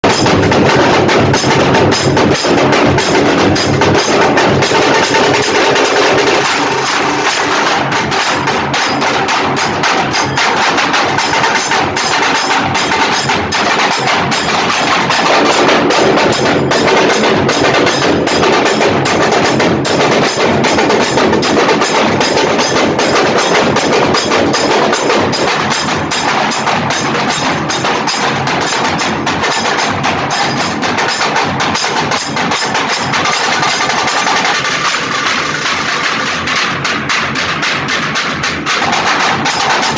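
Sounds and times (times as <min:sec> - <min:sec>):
fast loud drumming ensemble: 0:00.0 - 0:39.9.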